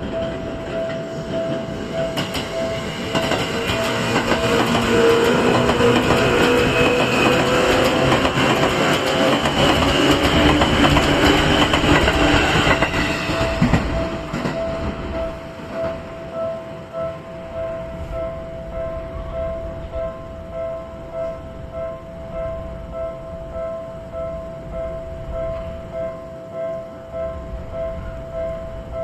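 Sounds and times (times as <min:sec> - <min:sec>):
electric train running past: 0:00.0 - 0:29.0.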